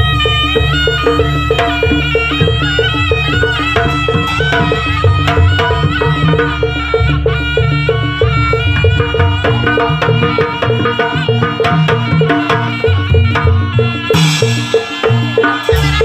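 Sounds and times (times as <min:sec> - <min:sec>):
percussion and low drums pulse: 0:00.0 - 0:16.0
sustained melody: 0:00.0 - 0:16.0.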